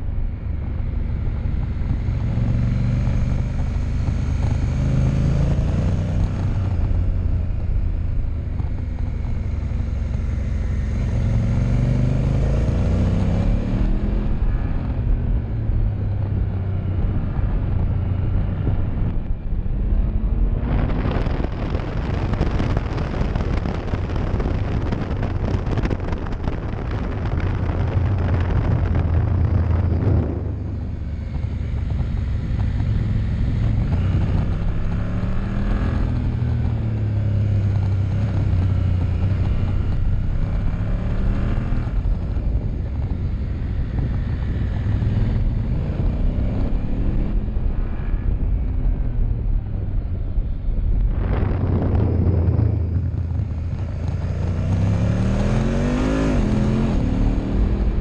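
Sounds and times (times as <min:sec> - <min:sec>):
motorcycle engine accelerating: 0:00.0 - 0:58.0
wind rush over microphone: 0:00.0 - 0:58.0.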